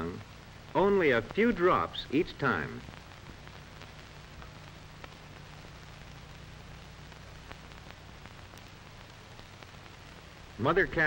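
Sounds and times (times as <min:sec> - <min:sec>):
faint crackles: 0:00.0 - 0:11.0
film soundtrack hiss: 0:00.0 - 0:11.0.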